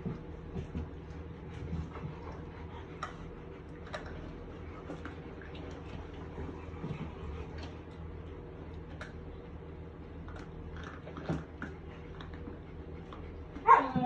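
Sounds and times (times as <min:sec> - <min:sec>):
puppies crunching kibble: 0:00.0 - 0:14.0.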